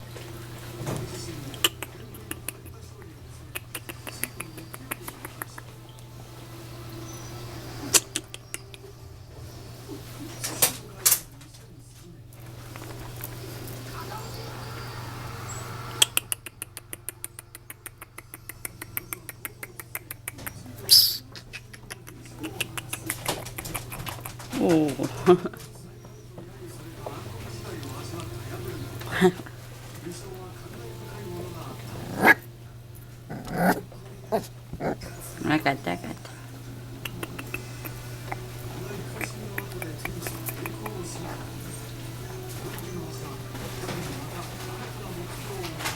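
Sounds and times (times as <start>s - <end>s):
puppies squeaking: 0.0s - 11.0s, 12.5s - 26.4s, 30.8s - 44.8s
steady low hum: 0.0s - 45.9s.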